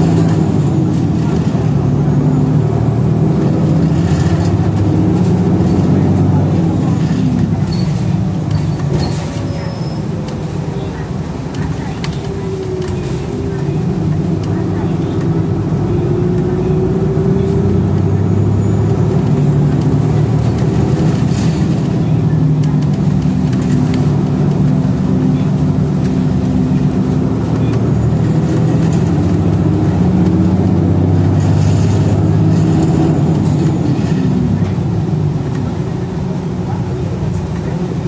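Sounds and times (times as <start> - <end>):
bus engine: 0.0 - 38.0
road noise: 0.0 - 38.0.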